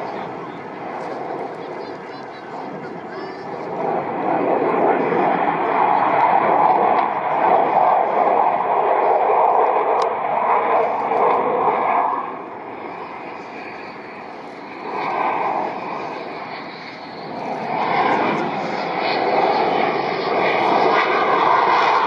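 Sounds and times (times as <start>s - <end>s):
fighter jet flying: 0.0s - 22.0s.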